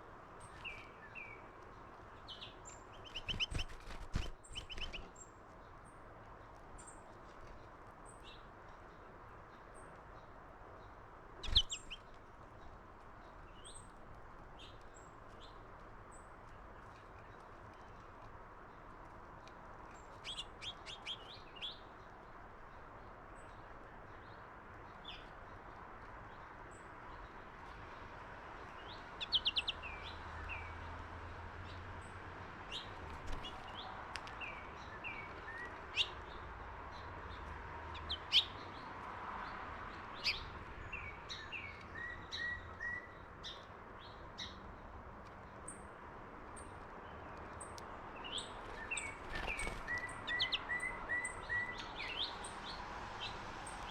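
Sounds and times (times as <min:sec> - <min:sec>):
small songbirds chirping: 0:00.3 - 0:53.9.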